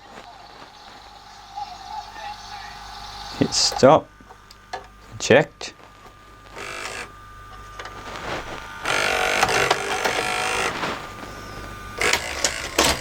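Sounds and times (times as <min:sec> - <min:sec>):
cassette loading motor whirring: 0:00.0 - 0:13.0.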